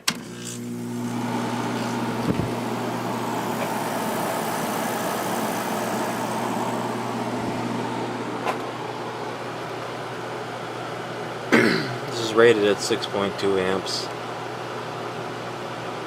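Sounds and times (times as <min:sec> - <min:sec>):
air conditioner running: 0:00.0 - 0:16.0.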